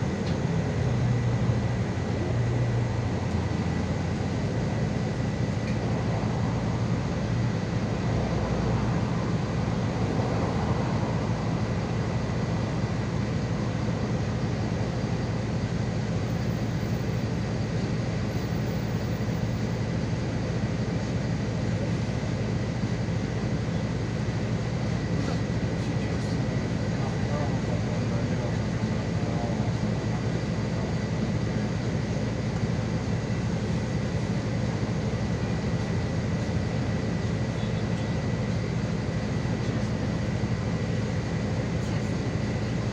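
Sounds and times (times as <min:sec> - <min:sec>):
bus engine drone: 0:00.0 - 0:42.9
road noise: 0:00.0 - 0:42.9.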